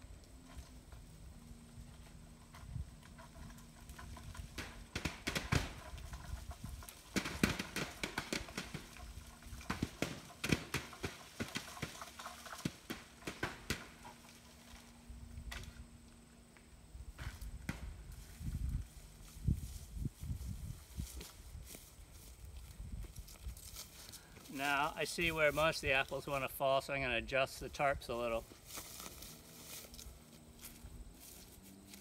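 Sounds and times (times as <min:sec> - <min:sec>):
apples thudding on tarps and grass: 0:00.4 - 0:15.9, 0:17.1 - 0:26.6, 0:27.6 - 0:32.0.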